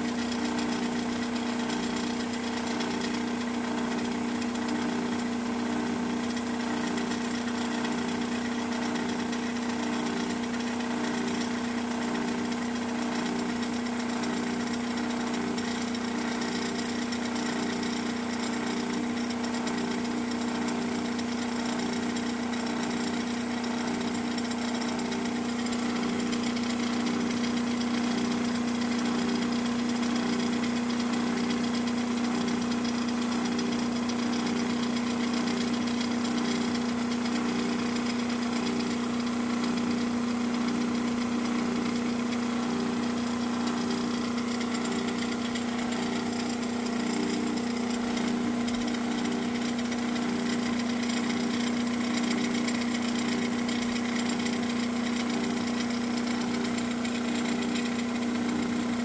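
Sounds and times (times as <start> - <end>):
milling machine hum: 0.0 - 59.0.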